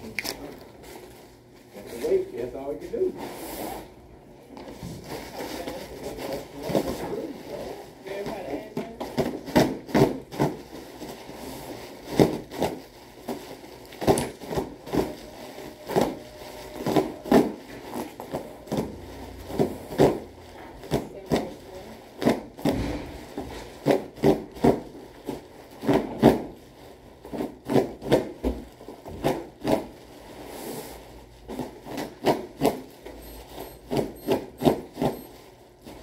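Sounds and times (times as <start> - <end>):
bubble wrap and cardboard rustling: 4.6 - 33.0, 35.3 - 36.0.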